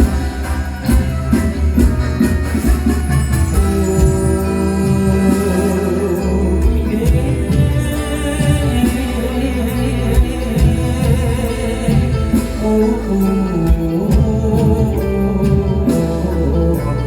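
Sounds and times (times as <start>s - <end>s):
live folk band music: 0.0s - 17.0s.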